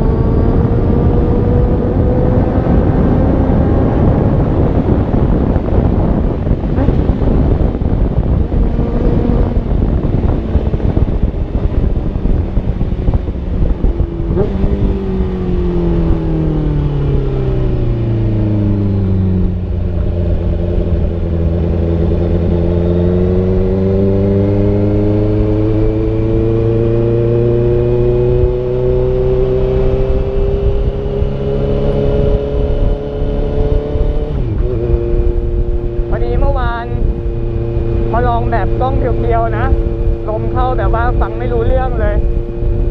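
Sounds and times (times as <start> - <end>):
motorcycle engine while riding: 0.0 - 42.9
wind rumble on microphone: 0.0 - 42.9.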